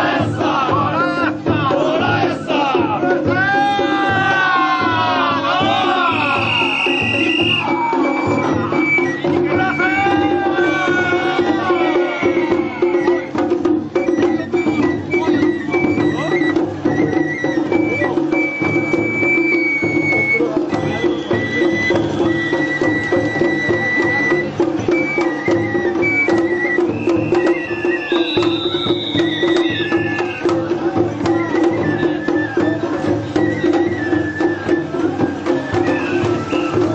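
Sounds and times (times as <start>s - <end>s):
rapid taiko drumming: 0.0s - 36.9s
bamboo flute high notes: 2.1s - 36.9s.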